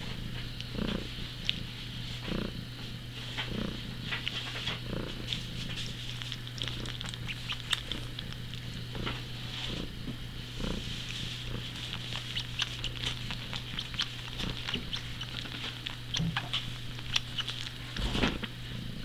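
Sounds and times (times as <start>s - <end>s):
cat suckling on fabric: 3.2s - 18.7s.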